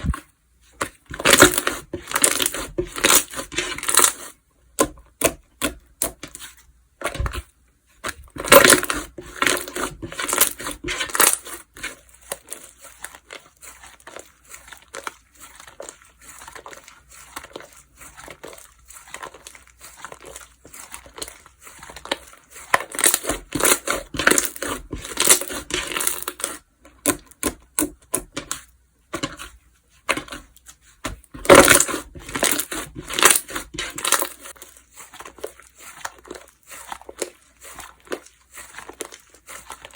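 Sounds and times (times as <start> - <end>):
slime crackling: 0.8 - 4.4, 7.1 - 39.9.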